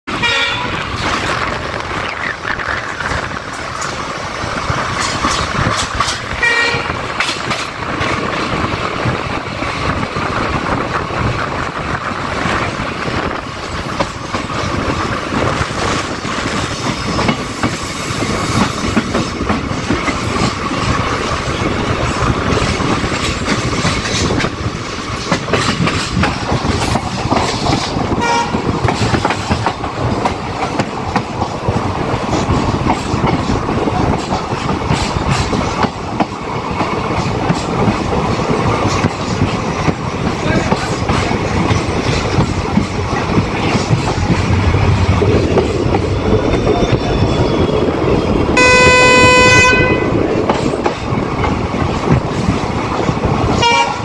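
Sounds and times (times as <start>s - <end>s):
train coaches rumbling: 0.0s - 54.0s
wheels clickety-clack: 0.4s - 54.0s.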